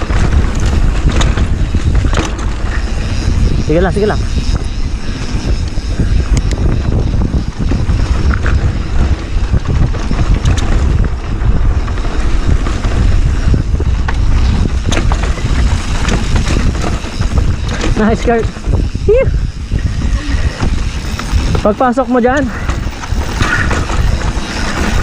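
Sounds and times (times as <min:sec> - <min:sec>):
bike rattling over rocks: 0:00.0 - 0:25.0
tyre noise: 0:00.0 - 0:25.0
wind buffeting microphone: 0:00.0 - 0:25.0.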